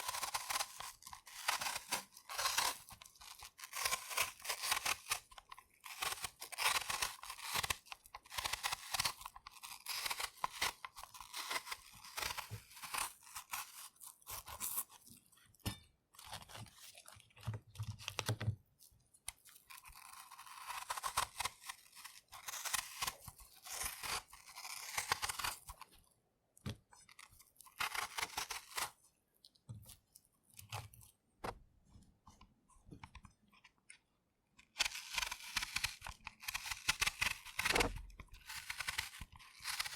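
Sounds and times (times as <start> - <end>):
knife peeling an apple: 0.0 - 39.9.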